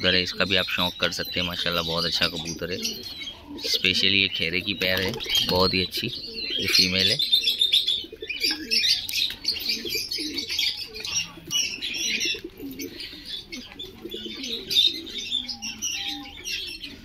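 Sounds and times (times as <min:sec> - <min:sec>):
pigeons cooing: 0:00.0 - 0:17.0
small birds chirping: 0:00.0 - 0:17.0.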